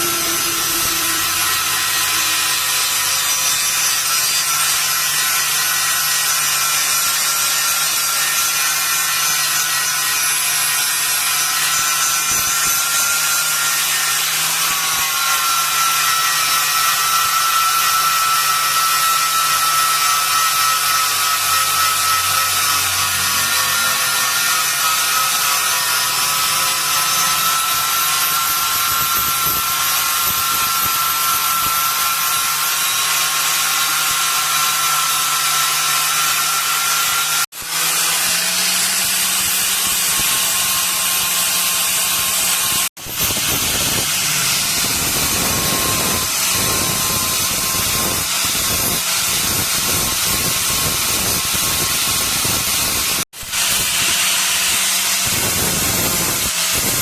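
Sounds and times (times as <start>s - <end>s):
power tool whining: 0.0s - 57.0s.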